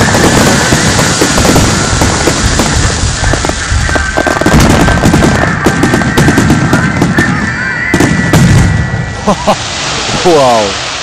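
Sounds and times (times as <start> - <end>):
fireworks booms: 0.0 - 11.0
fireworks crackling and popping: 0.0 - 11.0.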